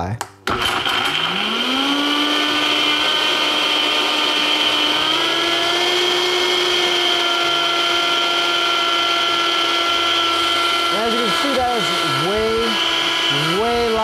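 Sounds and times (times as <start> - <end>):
blender motor whining: 0.5 - 14.0.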